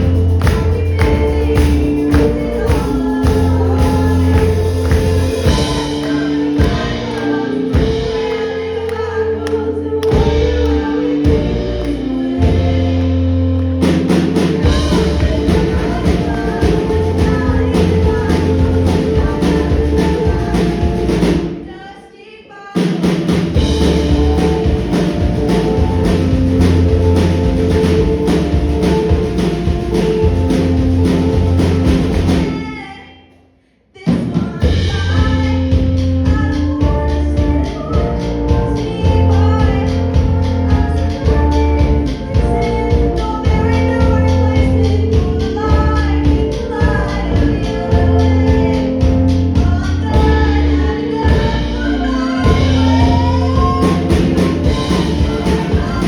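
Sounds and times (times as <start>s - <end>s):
drum kit: 0.0s - 21.8s, 22.8s - 32.8s, 34.1s - 56.0s
bass: 0.0s - 21.9s, 22.8s - 33.1s, 34.0s - 56.0s
person singing: 0.0s - 33.1s, 34.0s - 56.0s.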